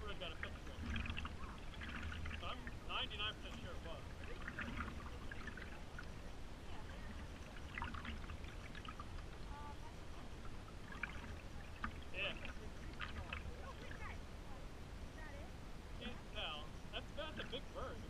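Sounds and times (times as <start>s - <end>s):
small water splashes: 0.0s - 18.0s
steady low rumble: 0.0s - 18.0s
water trickling and dripping: 0.0s - 18.0s.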